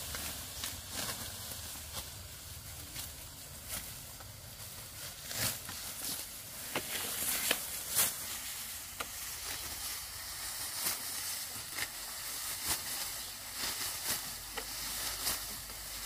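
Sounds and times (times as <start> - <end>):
hiss of moving straw: 0.0 - 16.0
rice stalks swishing and rustling: 0.0 - 16.0.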